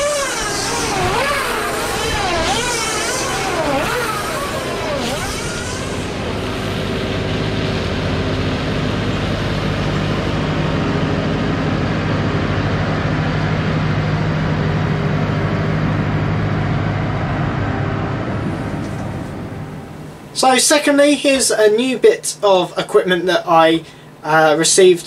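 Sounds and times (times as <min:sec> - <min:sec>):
tractor engine running: 0:00.0 - 0:20.3.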